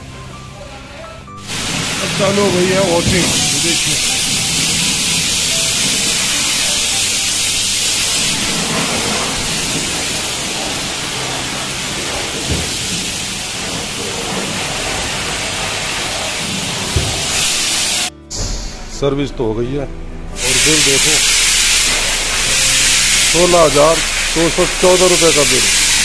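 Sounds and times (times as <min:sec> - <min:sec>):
hose water spray hissing: 0:01.4 - 0:18.1, 0:20.4 - 0:26.0.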